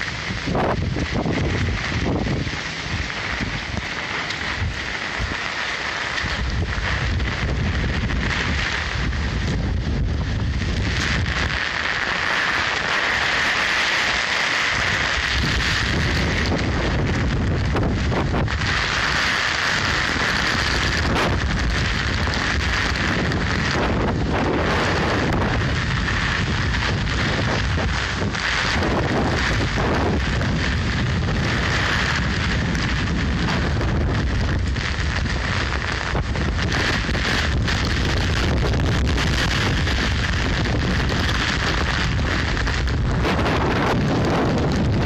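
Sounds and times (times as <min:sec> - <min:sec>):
floodwater rushing: 0:00.0 - 0:45.0
wind buffeting microphone: 0:00.0 - 0:45.0.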